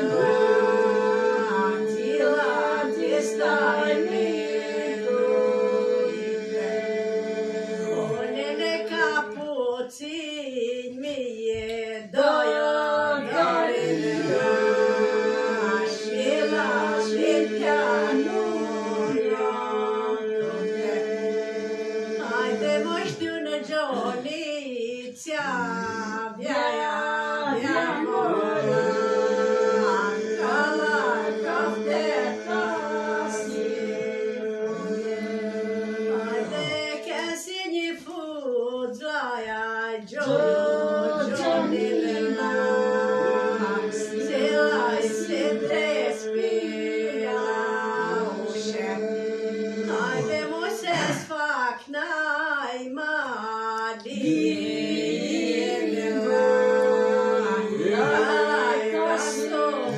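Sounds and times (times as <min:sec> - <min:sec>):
held vocal drone: 0:00.0 - 0:09.4, 0:11.5 - 0:24.4, 0:25.4 - 0:37.2, 0:40.0 - 0:51.4, 0:54.0 - 0:59.9
people singing unaccompanied: 0:00.0 - 0:59.9.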